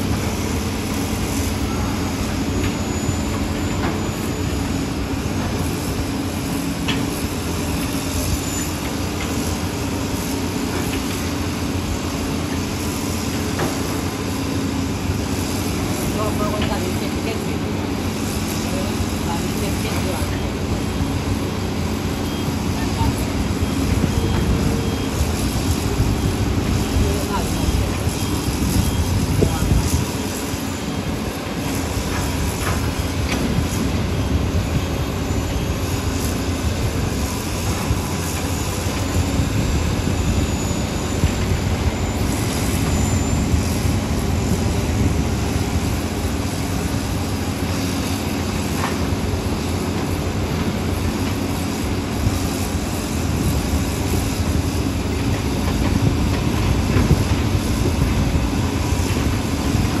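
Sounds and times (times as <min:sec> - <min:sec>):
excavator diesel engines running: 0:00.0 - 1:00.0.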